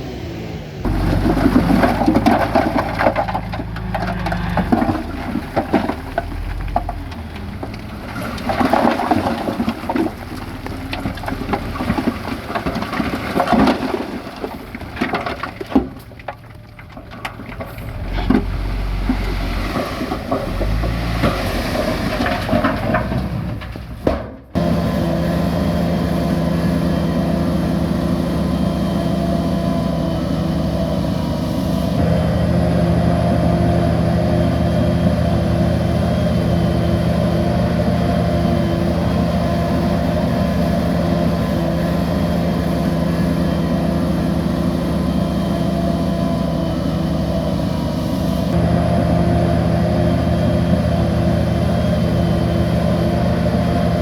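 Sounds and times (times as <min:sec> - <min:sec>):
bulldozer diesel engine: 0:00.0 - 0:54.0
soil and rock crunching: 0:00.8 - 0:54.0.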